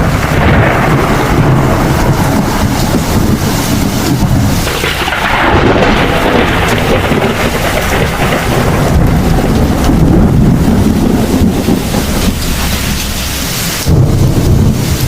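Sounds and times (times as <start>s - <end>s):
heavy rain: 0.0s - 15.0s
loud thunder peal: 0.0s - 15.0s
thunder rumbling: 0.0s - 15.0s.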